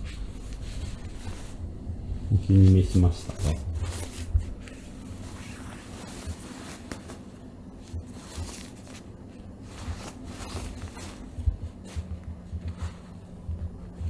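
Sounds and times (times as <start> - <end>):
jacket rustling and crinkling: 0.0 - 14.0.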